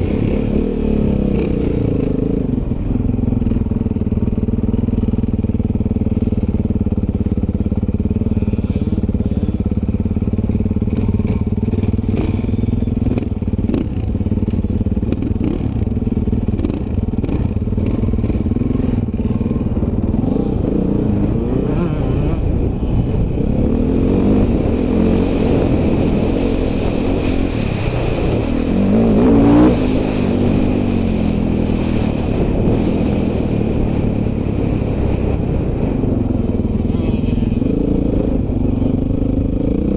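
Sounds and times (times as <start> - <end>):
dirt bike engine revving: 0.0 - 3.8, 4.6 - 39.9.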